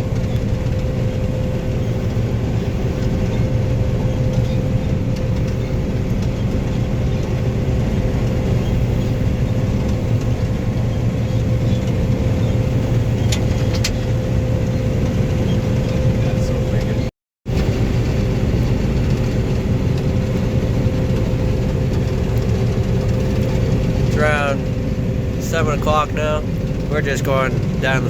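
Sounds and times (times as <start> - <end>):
combine harvester drone: 0.0 - 28.0.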